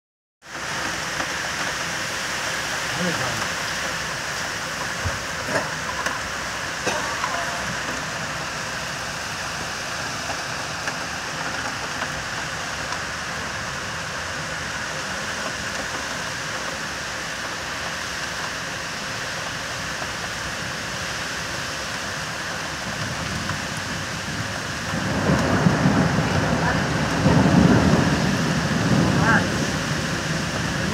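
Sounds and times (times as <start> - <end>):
heavy rain on roofs: 0.4 - 30.9.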